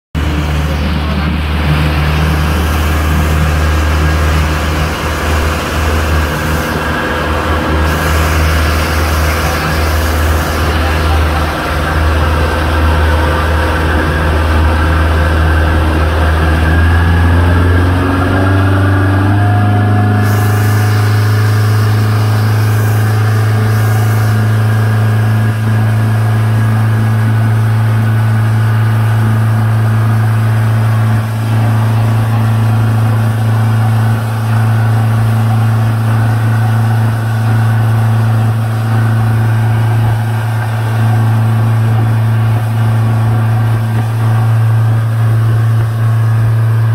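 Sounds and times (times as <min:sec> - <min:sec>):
boat engine running: 0:00.1 - 0:46.9.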